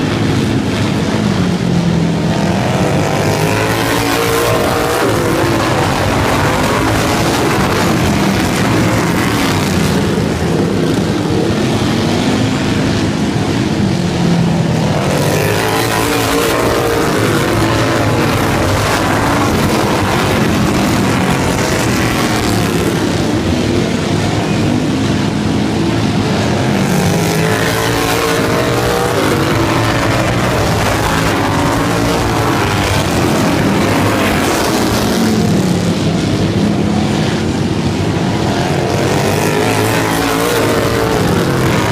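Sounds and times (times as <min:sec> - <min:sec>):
racing lawn mower engines: 0:00.0 - 0:41.9.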